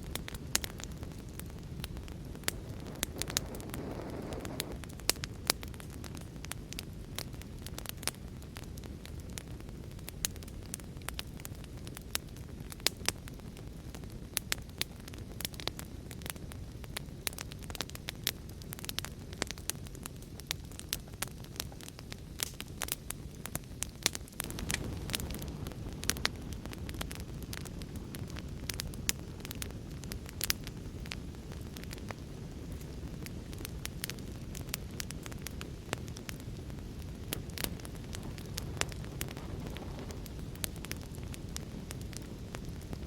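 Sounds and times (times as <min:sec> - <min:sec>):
fire low rumble: 0:00.0 - 0:43.0
wood fire popping and snapping: 0:00.0 - 0:43.0.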